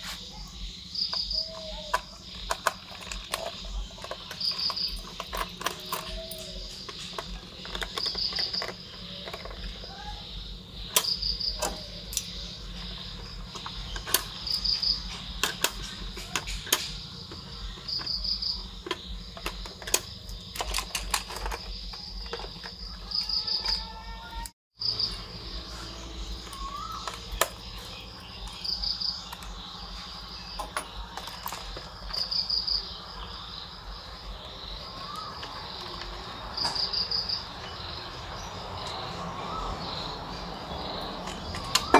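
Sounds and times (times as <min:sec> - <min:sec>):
cricket chirping: 0:00.0 - 0:41.9.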